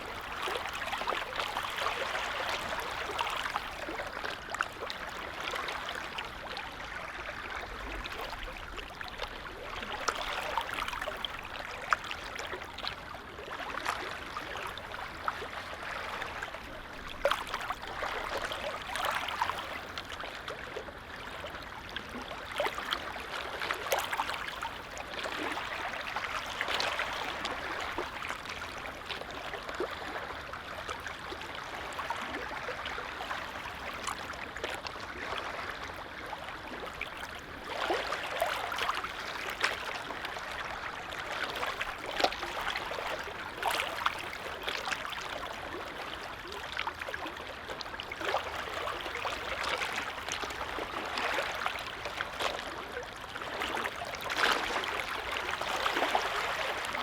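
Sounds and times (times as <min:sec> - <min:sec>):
lake waves lapping and splashing: 0:00.0 - 0:57.0.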